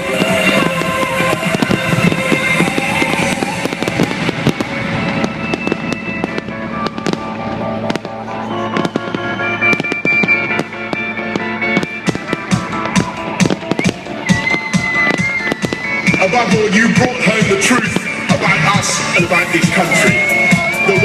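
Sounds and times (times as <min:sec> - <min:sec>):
fireworks bangs and crackles: 0:00.0 - 0:21.0
music: 0:00.0 - 0:21.0.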